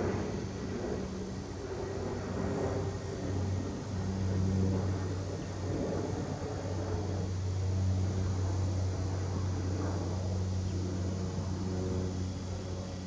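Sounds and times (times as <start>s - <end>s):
jet airliner rumble overhead: 0.0s - 13.0s
low mechanical hum: 0.0s - 13.0s.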